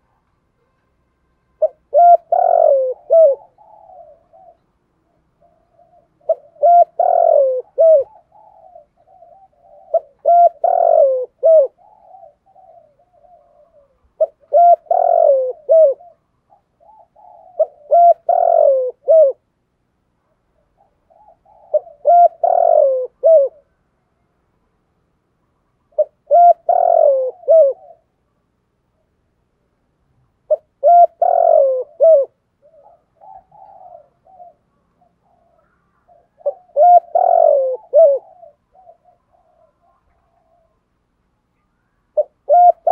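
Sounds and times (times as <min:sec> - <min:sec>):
dove cooing: 0:01.5 - 0:19.5, 0:20.2 - 0:23.8, 0:25.8 - 0:28.2, 0:30.4 - 0:42.9.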